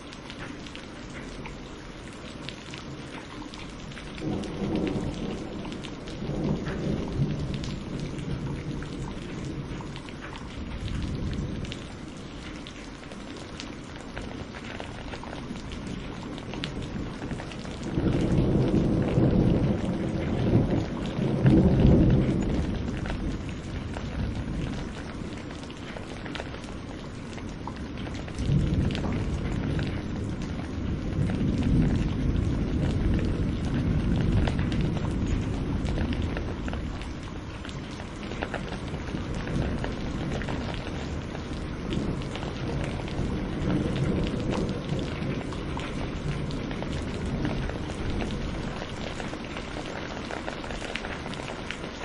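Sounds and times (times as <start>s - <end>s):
steady rain: 0.0s - 52.0s
rolling thunder: 4.2s - 12.0s, 15.1s - 25.5s, 27.6s - 37.2s, 37.8s - 51.8s.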